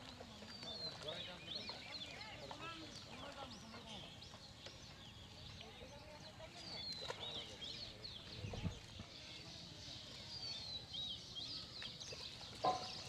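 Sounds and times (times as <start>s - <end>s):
faint outdoor background: 0.0s - 13.0s
small birds chirping: 0.0s - 13.0s.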